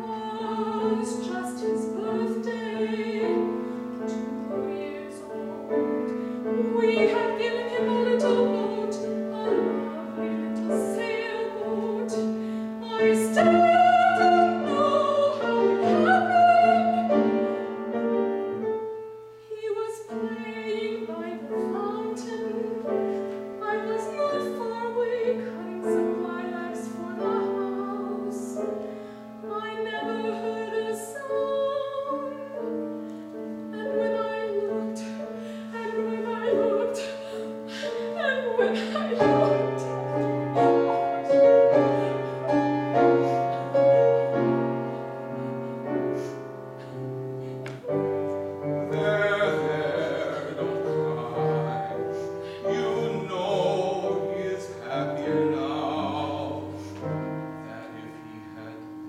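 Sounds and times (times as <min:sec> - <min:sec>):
operatic singing with vibrato: 0:00.0 - 0:32.9, 0:33.5 - 0:59.0
piano accompaniment: 0:00.0 - 0:59.0.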